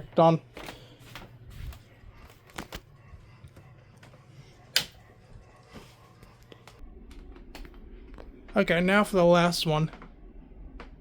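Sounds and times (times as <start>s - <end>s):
air conditioner fan humming: 0.0s - 11.0s.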